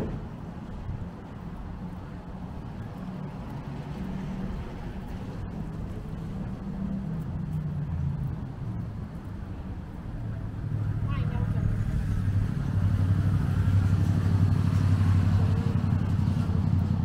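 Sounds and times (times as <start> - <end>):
traffic engines humming: 0.0 - 17.0.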